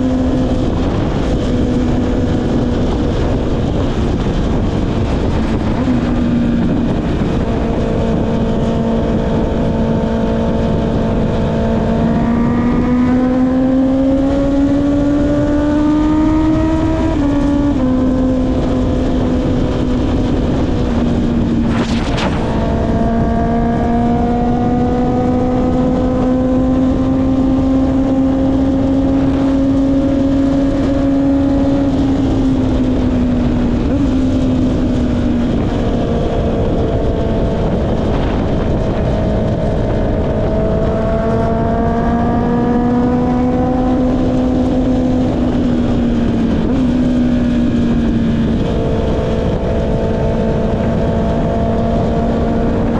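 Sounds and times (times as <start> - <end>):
motorcycle engine revving: 0.0 - 52.9
wind on microphone: 0.0 - 52.9.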